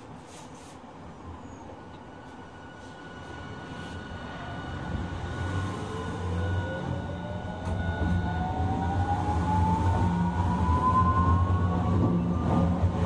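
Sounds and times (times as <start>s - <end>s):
tram running noise: 0.8s - 13.0s
tram inverter whine rising: 1.2s - 13.0s.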